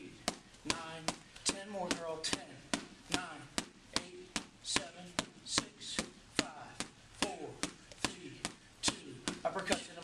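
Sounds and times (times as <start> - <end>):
boxing gloves striking mitts: 0.0 - 10.0.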